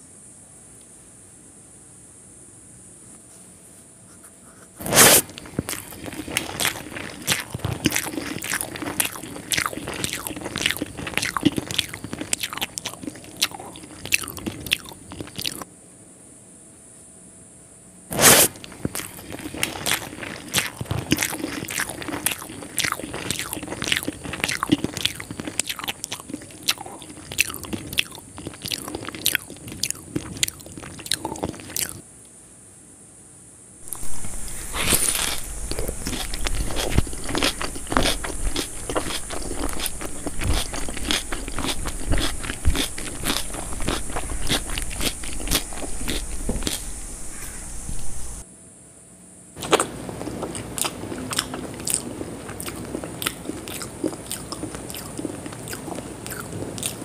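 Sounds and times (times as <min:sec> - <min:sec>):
loud bite: 0:04.8 - 0:15.6, 0:18.1 - 0:32.0, 0:33.8 - 0:48.4, 0:49.6 - 0:57.0
chewing with clicks and crunches: 0:04.8 - 0:15.7, 0:18.1 - 0:32.0, 0:33.8 - 0:48.4, 0:49.6 - 0:57.0.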